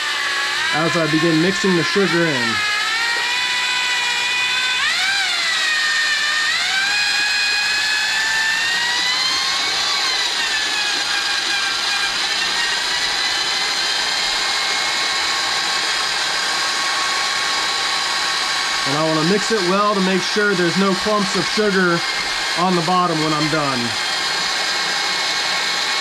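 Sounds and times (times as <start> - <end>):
mixing drill motor whining: 0.0 - 26.0.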